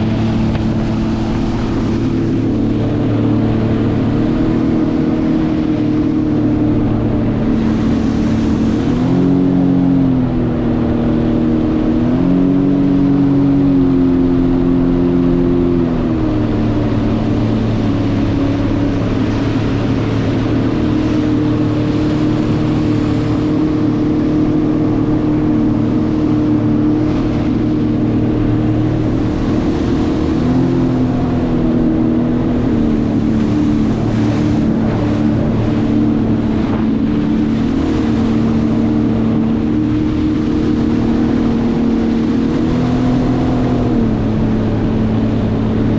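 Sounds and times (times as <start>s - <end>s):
jet ski engine running: 0.0s - 45.9s
rushing water noise: 0.0s - 45.9s.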